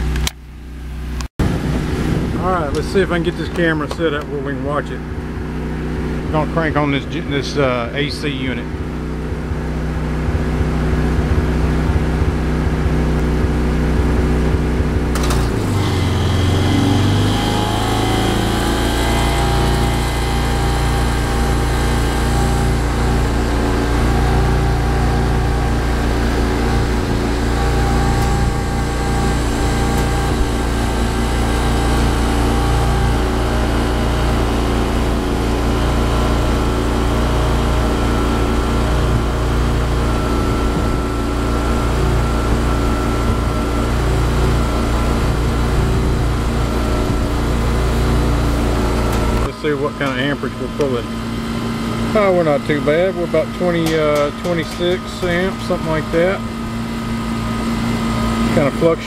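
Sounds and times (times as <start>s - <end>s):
generator engine running: 0.0s - 59.0s
condenser unit hum: 0.1s - 59.0s.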